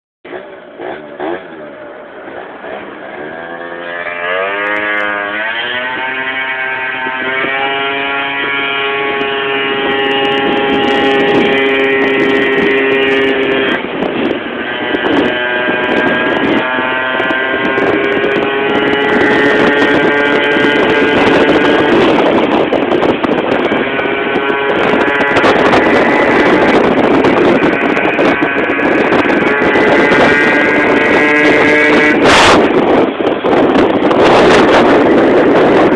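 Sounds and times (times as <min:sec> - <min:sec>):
wind noise on microphone: 0:00.2 - 0:35.9
scooter engine accelerating: 0:00.3 - 0:35.9.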